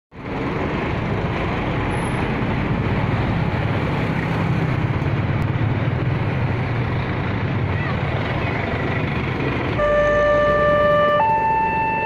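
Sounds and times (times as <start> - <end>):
road traffic noise: 0.1 - 12.0
truck diesel engine rumbling: 0.2 - 12.0.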